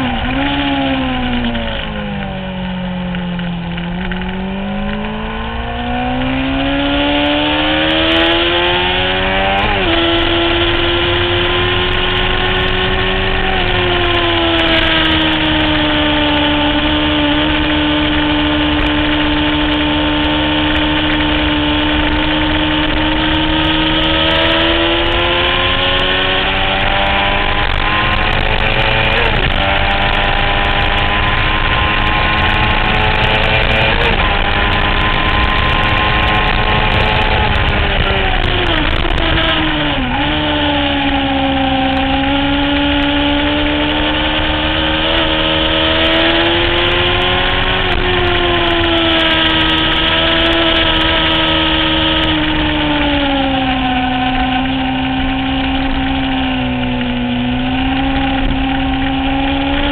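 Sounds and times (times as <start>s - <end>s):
motorcycle engine at high revs: 0.0s - 59.9s
wind rush: 4.0s - 59.9s.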